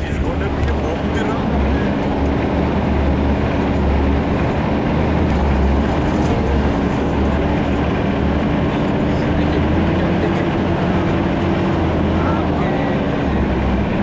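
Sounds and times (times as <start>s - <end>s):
off-road engine droning: 0.0s - 14.0s.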